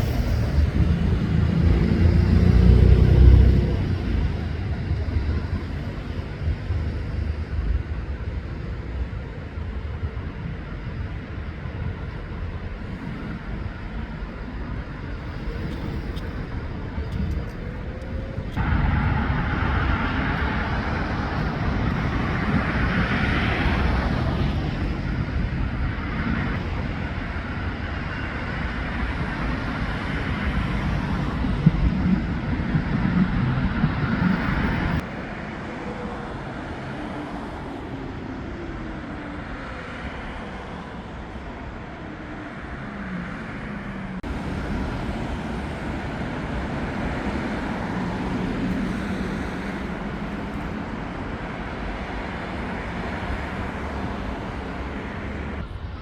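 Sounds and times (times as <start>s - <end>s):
passing vehicle engines: 0.0s - 56.0s
road noise: 0.0s - 56.0s.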